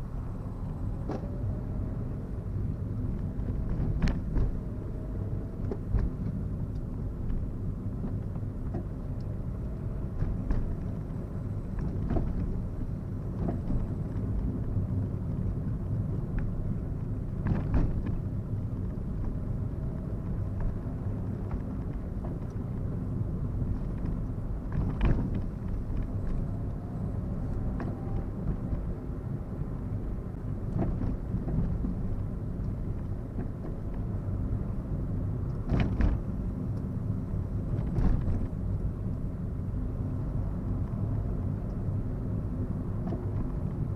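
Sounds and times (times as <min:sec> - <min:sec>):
engine and road noise in car: 0:00.0 - 0:43.9.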